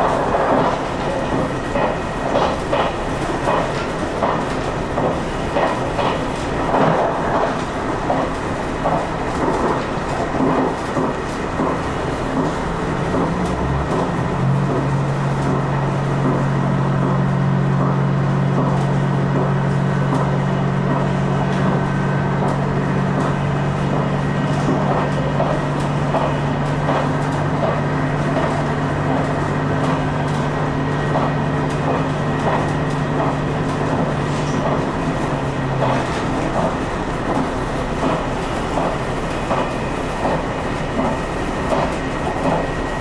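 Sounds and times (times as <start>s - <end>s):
diesel railcar engine drone: 0.0s - 43.0s
wheels rolling on rails: 0.0s - 43.0s.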